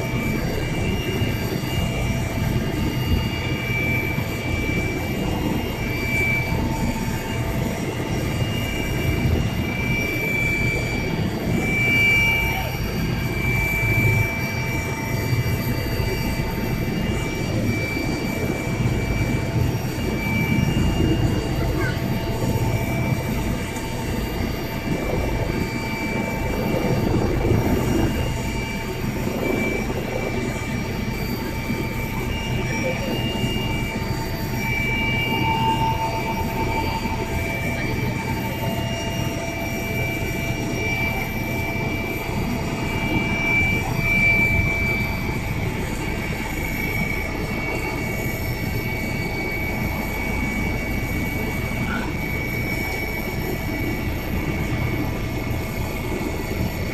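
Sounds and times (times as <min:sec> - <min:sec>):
helicopter engine and rotor drone: 0:00.0 - 0:56.9
whining tones: 0:00.0 - 0:56.9.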